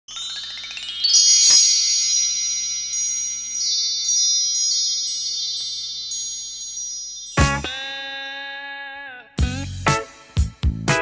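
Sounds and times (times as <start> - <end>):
shimmering chimes: 0.1 - 9.0.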